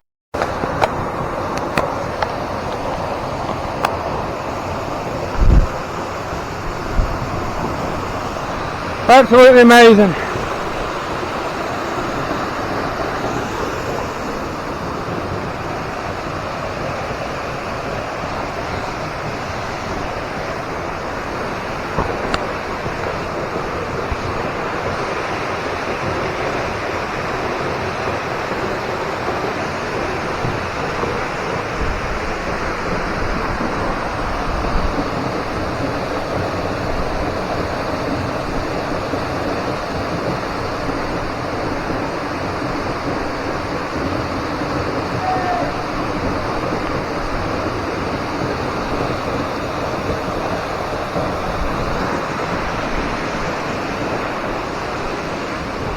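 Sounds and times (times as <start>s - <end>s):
waterfall rushing: 0.4s - 55.9s.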